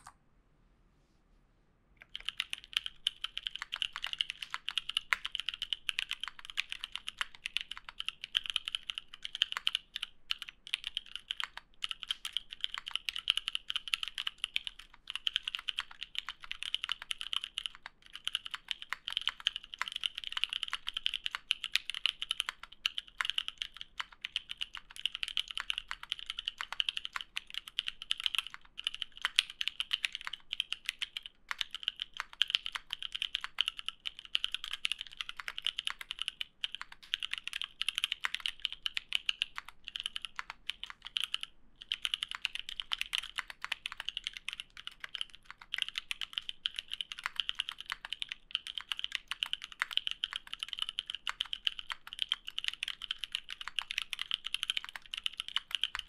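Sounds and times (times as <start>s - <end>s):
mechanical keyboard typing: 2.0s - 56.0s.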